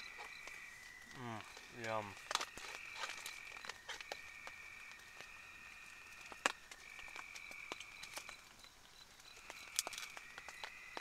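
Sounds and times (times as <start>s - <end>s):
frogs trilling: 0.0s - 11.0s.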